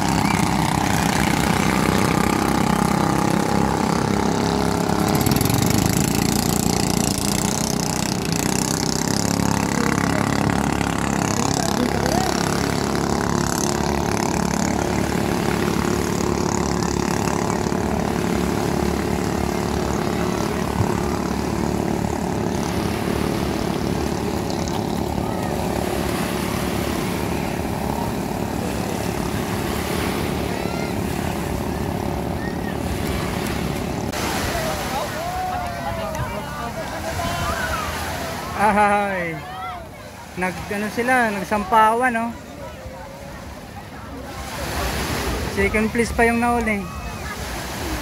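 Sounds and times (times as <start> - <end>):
boat engines droning: 0.0 - 48.0.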